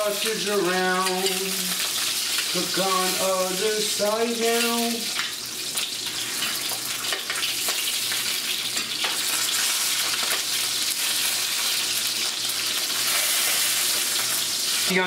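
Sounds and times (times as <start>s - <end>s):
sausages sizzling in frying pan: 0.0s - 15.0s.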